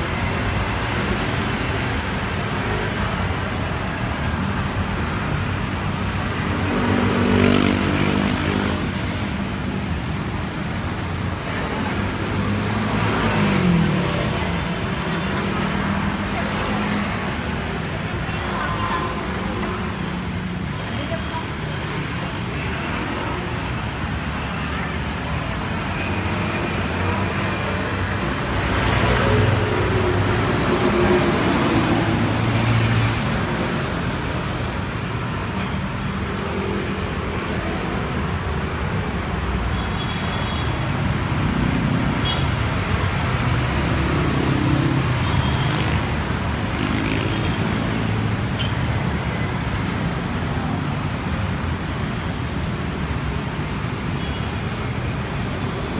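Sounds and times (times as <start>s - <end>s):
city street traffic: 0.0s - 55.9s.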